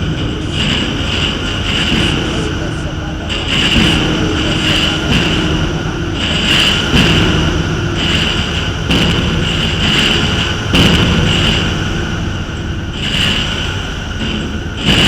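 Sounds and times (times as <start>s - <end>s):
booming hits: 0.0s - 15.0s
industrial noise drone: 0.0s - 15.0s.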